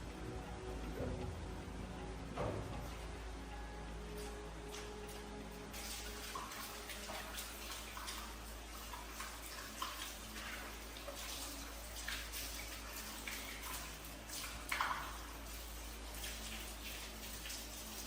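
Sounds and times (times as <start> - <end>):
water splashing in washing machine: 0.0 - 18.0.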